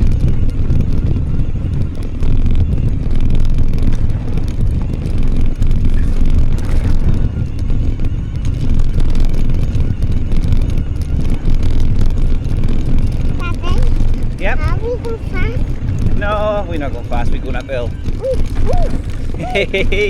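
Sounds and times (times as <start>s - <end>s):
bike rattles and clicks: 0.0s - 20.0s
tyre and wind rumble: 0.0s - 20.0s.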